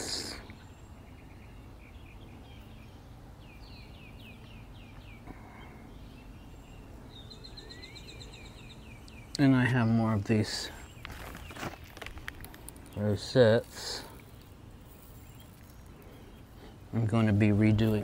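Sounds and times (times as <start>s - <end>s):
faint outdoor hiss: 0.0s - 18.0s
songbirds singing: 0.0s - 18.0s.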